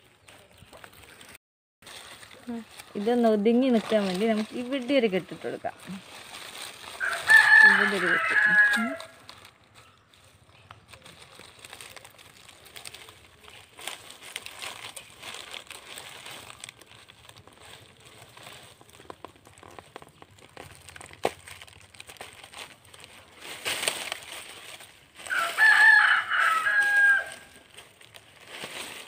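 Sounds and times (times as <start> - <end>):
dry palm leaves rustling: 0.0 - 29.0.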